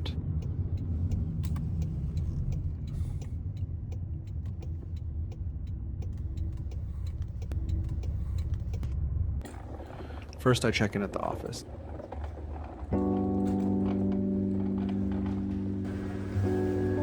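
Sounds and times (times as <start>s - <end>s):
engine and road noise rumble: 0.0s - 17.0s.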